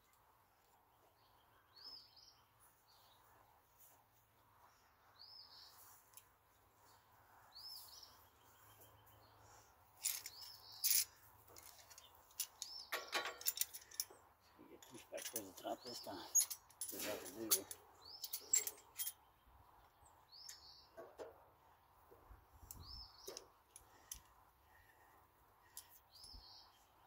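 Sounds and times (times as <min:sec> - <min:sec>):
outdoor background noise: 0:00.0 - 0:27.0
bird chirping: 0:00.7 - 0:03.4, 0:04.6 - 0:06.2, 0:06.8 - 0:21.2, 0:22.6 - 0:25.0, 0:25.6 - 0:27.0.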